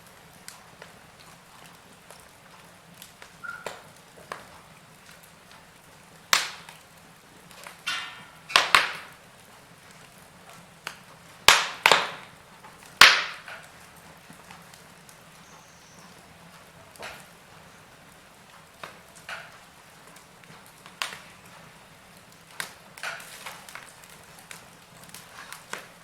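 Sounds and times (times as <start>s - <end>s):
faint steady hiss: 0.0s - 26.0s
wood fire crackling and popping: 0.0s - 26.0s.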